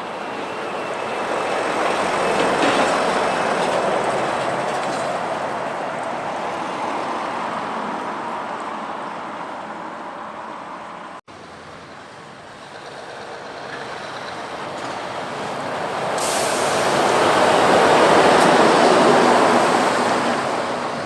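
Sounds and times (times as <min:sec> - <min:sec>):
trucks passing: 0:00.0 - 0:21.0.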